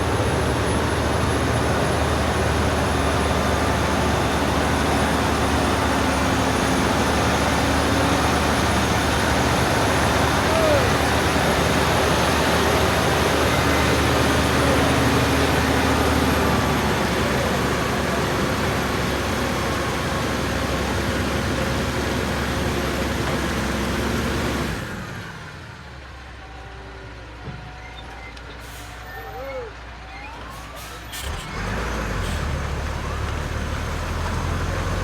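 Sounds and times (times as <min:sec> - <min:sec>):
heavy truck engine labouring: 0:00.0 - 0:35.0.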